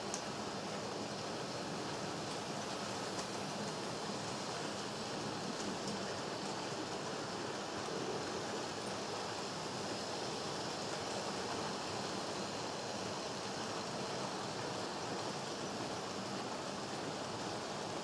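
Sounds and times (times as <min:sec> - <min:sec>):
model trains whirring on track: 0:00.0 - 0:18.0.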